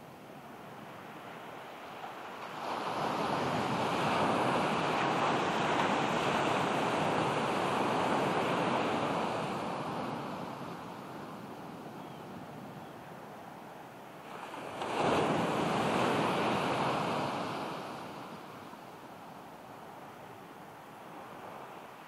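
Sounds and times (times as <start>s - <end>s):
ocean surf washing: 0.0s - 22.0s.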